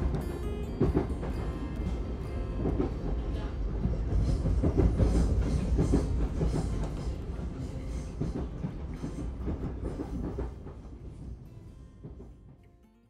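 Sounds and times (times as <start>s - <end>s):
train wheel clatter: 0.0s - 11.4s
train rumble inside carriage: 0.0s - 12.7s.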